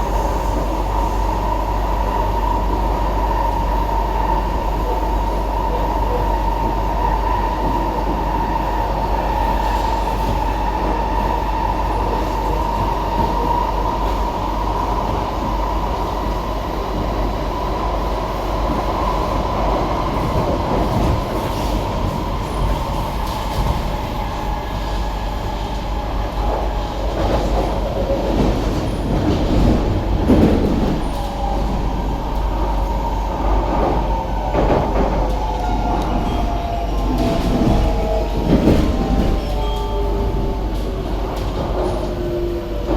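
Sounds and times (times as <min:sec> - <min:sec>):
train rumble and rail noise: 0:00.0 - 0:42.9.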